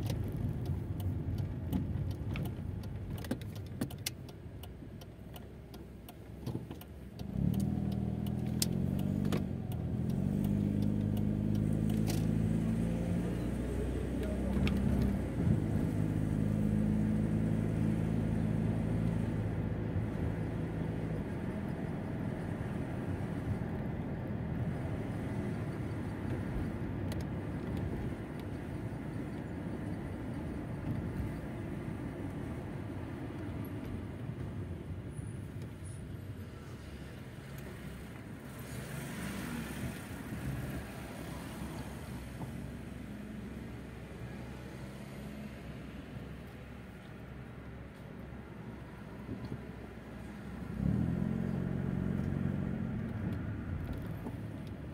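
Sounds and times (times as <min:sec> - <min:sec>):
car engine hum: 0:00.0 - 0:54.9
tyres rumbling on road: 0:00.0 - 0:54.9.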